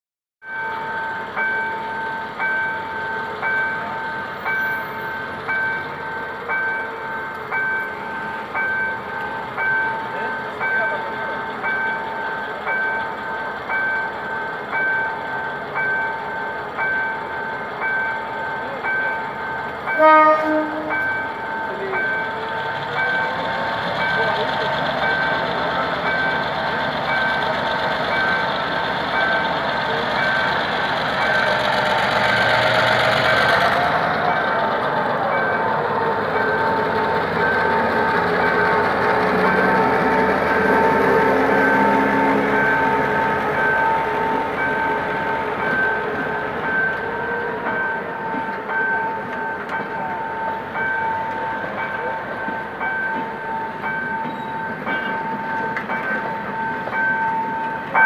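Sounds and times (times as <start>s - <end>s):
diesel locomotive engine running low: 0.4s - 58.0s
level-crossing warning bell ringing: 0.4s - 58.0s.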